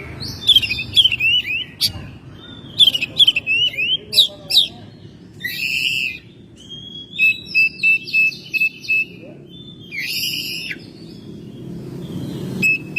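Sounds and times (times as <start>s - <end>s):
bird singing whistled notes: 0.0s - 12.9s.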